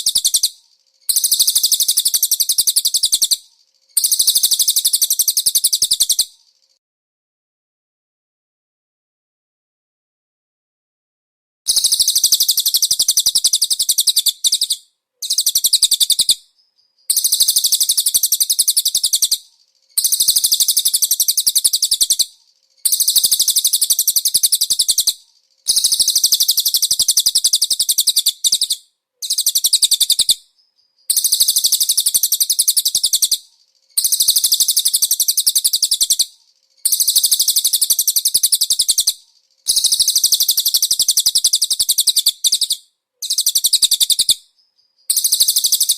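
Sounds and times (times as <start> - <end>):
bird song trills: 0.0 - 6.8, 11.7 - 45.9.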